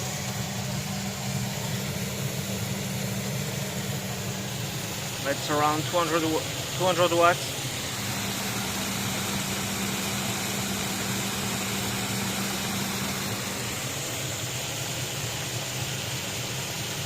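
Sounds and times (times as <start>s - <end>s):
generator motor hum: 0.0s - 17.0s.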